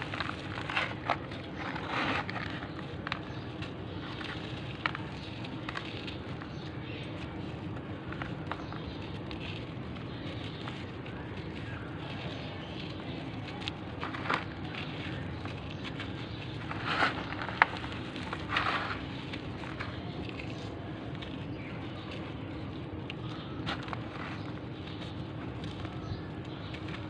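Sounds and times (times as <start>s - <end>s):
dry clumps crunching by hand: 0.0s - 27.0s
steady low hum: 0.0s - 27.0s.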